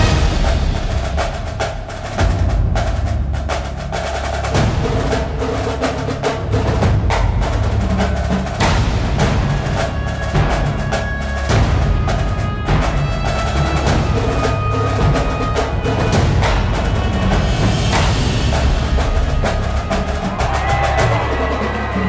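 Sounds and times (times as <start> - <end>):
percussion-heavy music: 0.0 - 22.0.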